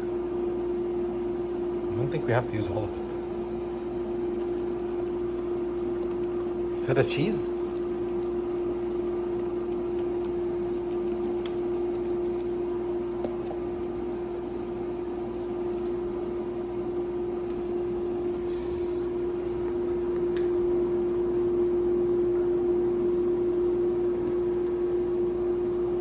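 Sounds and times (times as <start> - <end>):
one-note electrical hum: 0.0 - 26.0.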